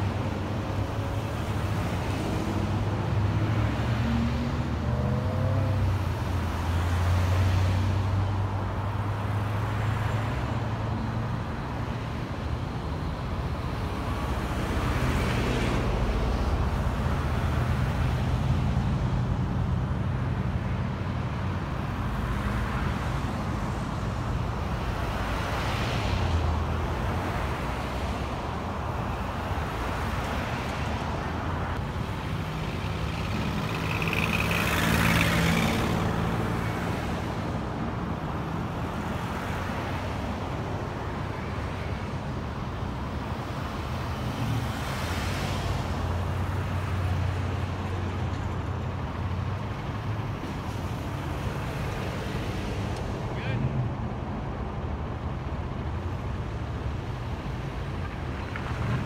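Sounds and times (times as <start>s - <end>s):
vehicles passing by: 0.0s - 59.0s.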